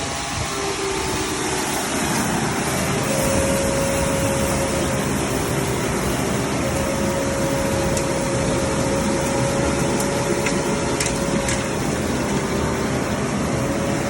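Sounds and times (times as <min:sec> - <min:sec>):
constant machine whine: 0:00.0 - 0:14.0
vacuum truck rushing noise: 0:00.0 - 0:14.0.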